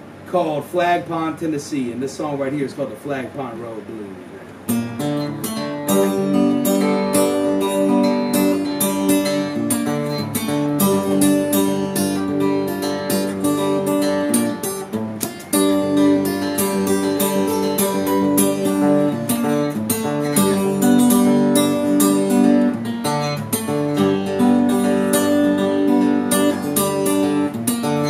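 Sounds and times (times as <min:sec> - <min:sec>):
acoustic guitar strumming: 0:04.6 - 0:28.0.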